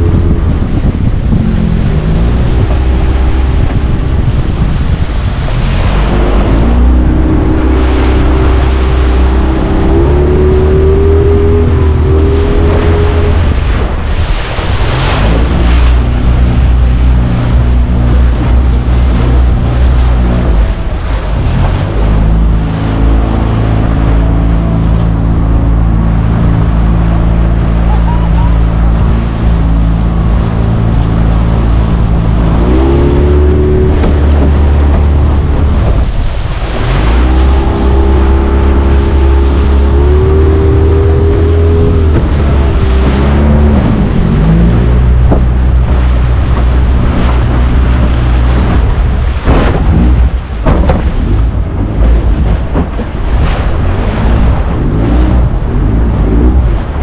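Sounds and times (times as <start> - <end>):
motorboat engine running: 0.0 - 57.0
wind noise on microphone: 0.0 - 57.0.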